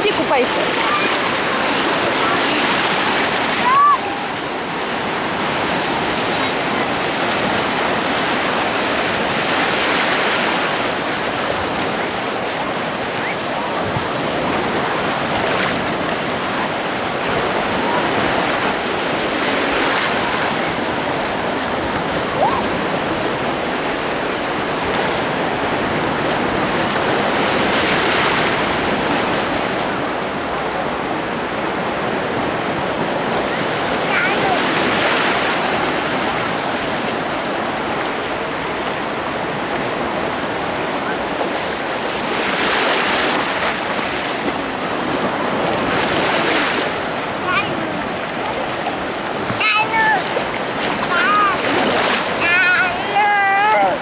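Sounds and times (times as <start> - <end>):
small waves splashing on shore: 0.0 - 54.0.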